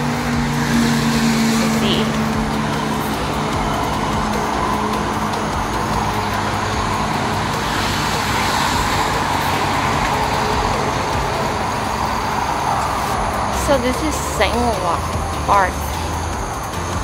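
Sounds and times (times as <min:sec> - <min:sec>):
highway traffic rushing: 0:00.0 - 0:17.0.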